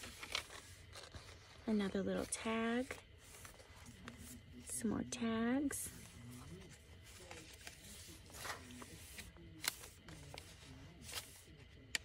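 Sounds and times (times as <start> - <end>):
paper pages rustling: 0.0 - 4.7, 5.8 - 12.0.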